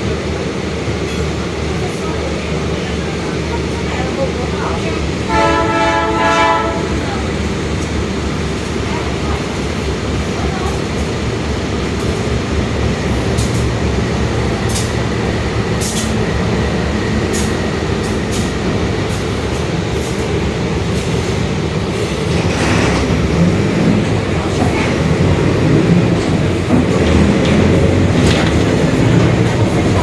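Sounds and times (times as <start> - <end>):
diesel bus engine rumbling: 0.0 - 30.0.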